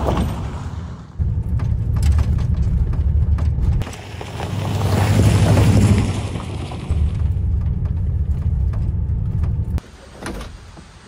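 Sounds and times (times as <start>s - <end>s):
vehicle driving on gravel: 0.0s - 9.8s.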